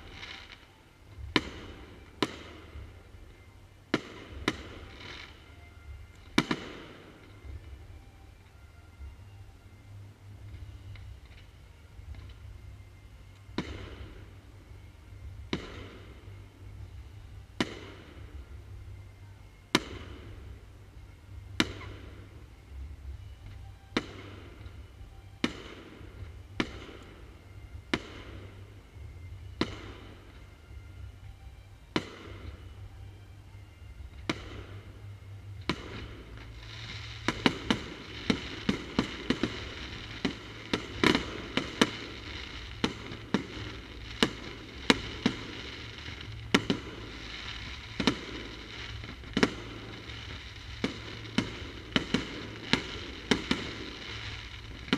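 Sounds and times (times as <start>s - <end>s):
fireworks bursting with echo: 0.0s - 9.5s, 13.4s - 54.9s.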